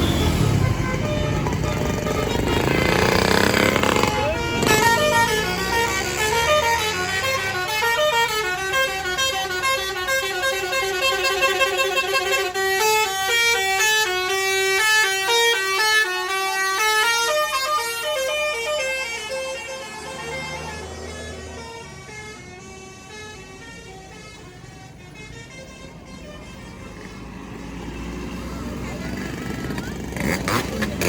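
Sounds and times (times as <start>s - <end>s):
musical air horn melody: 0.0s - 27.1s.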